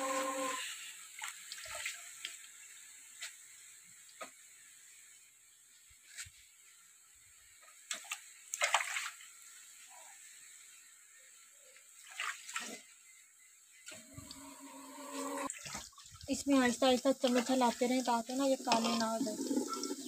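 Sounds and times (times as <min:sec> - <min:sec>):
onions sizzling in oil: 0:00.0 - 0:08.6, 0:09.2 - 0:12.0, 0:12.6 - 0:20.0.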